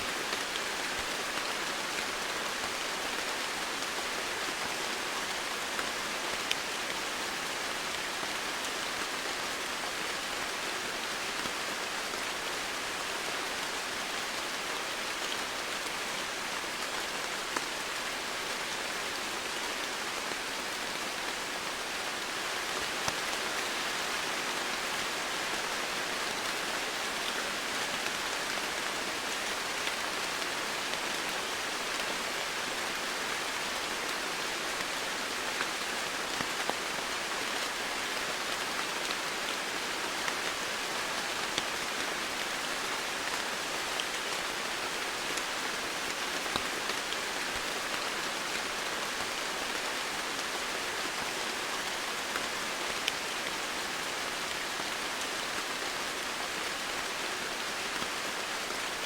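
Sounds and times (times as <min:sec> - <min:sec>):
rain falling on foliage: 0:00.0 - 0:59.0.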